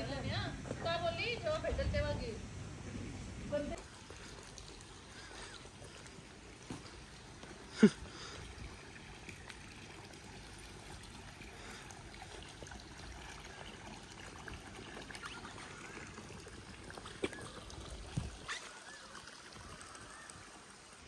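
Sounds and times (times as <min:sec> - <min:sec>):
trickling water: 0:03.5 - 0:21.0.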